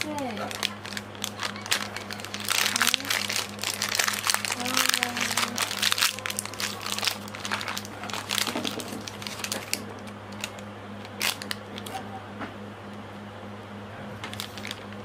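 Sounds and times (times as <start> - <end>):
plastic wrapper crinkling: 0.0 - 12.0, 14.2 - 15.0
steady low hum: 0.0 - 15.0.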